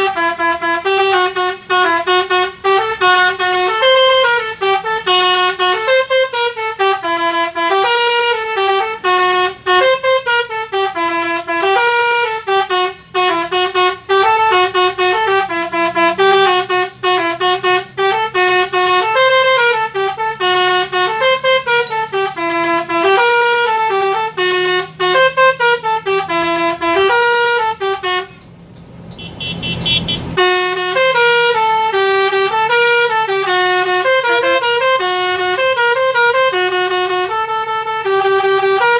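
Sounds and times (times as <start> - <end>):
musical horn playing a tune: 0.0 - 28.4, 29.2 - 38.9.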